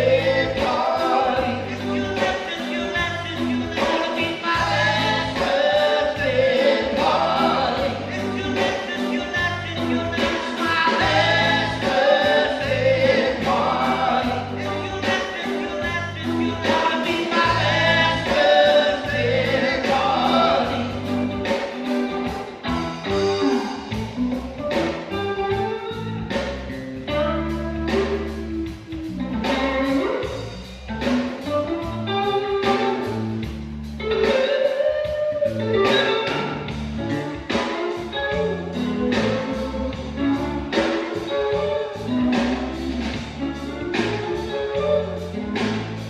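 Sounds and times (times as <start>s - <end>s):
bass line: 0.0s - 46.0s
guitar: 0.0s - 46.0s
reggae band playing: 0.0s - 46.0s.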